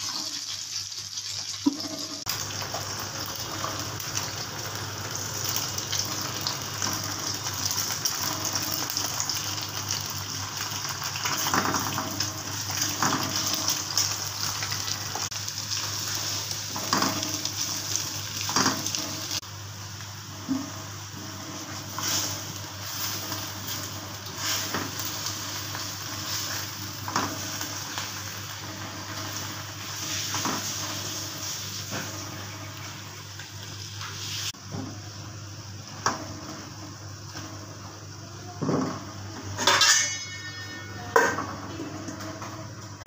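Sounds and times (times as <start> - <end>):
onions and eggs sizzling in oil: 0.0 - 43.0.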